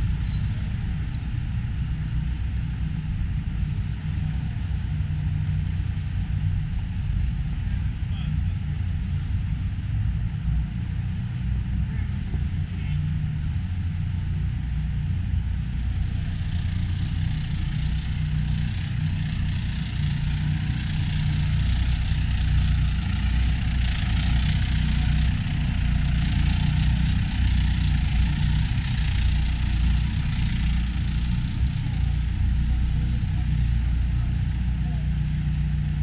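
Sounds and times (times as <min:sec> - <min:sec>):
large engine idling: 0:00.0 - 0:36.0.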